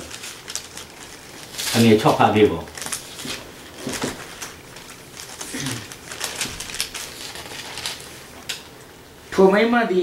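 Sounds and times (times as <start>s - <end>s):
paper rustling: 0.0s - 8.6s.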